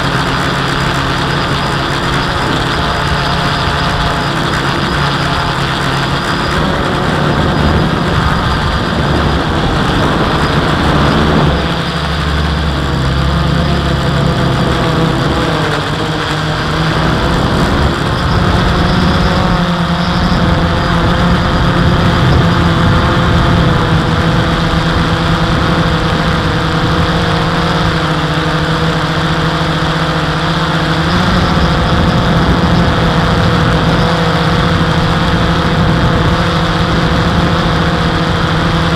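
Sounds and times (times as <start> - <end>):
drone propellers buzzing: 0.0 - 38.9.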